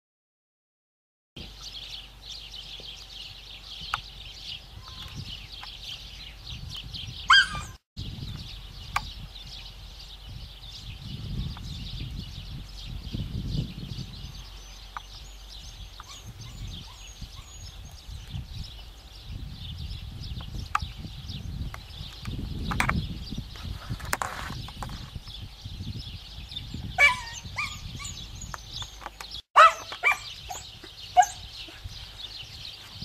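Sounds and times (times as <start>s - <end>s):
birds chirping: 1.4s - 33.0s
wind rumble on microphone: 1.4s - 33.0s.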